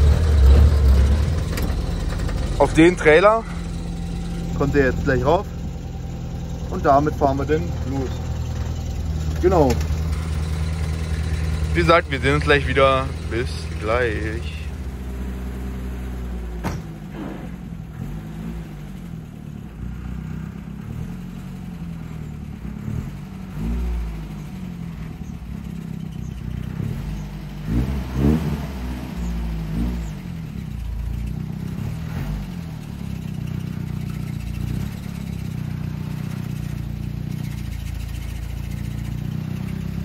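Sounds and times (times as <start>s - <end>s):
petrol engine revving: 0.0s - 40.0s.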